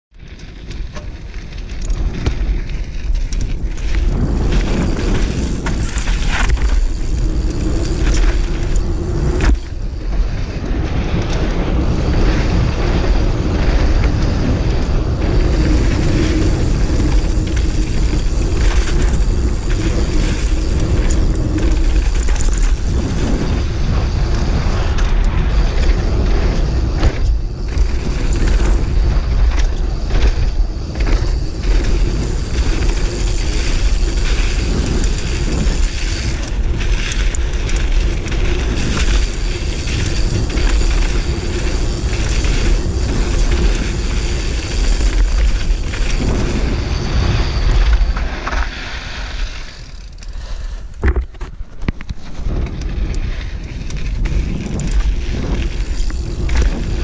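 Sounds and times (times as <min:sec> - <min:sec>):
bike tyres rolling over dirt: 0:00.1 - 0:57.0
wind rumbling over microphone: 0:00.1 - 0:57.0.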